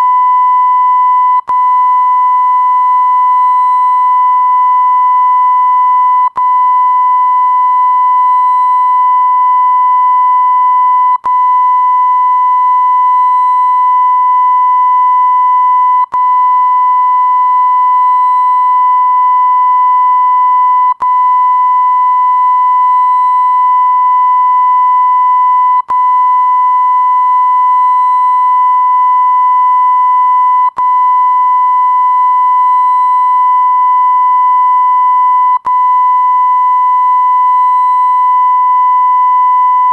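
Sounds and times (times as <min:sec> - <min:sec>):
high-pitched censor beep: 0:00.0 - 0:39.9.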